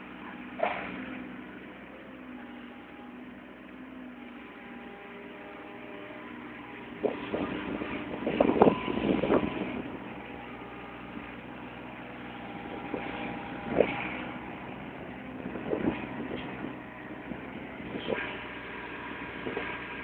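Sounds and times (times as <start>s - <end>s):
excavator diesel engine: 0.0s - 20.0s.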